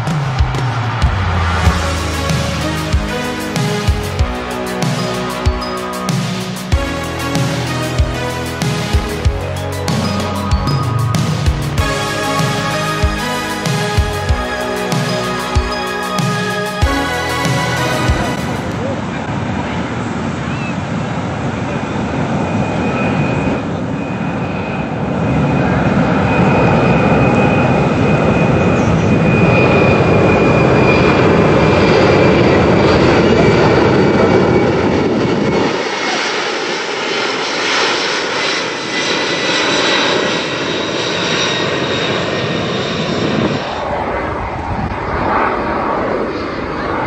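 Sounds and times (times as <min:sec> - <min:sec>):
fighter jet: 0:00.0 - 0:47.0
jet engines passing overhead: 0:00.0 - 0:47.0.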